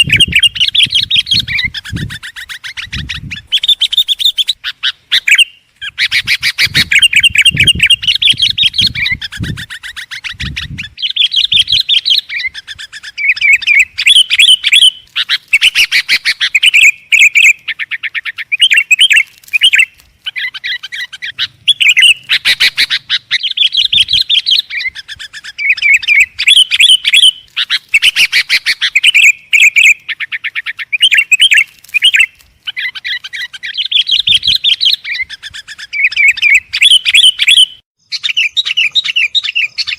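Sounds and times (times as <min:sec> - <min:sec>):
bird singing bright chattering phrases: 0:00.0 - 0:39.9.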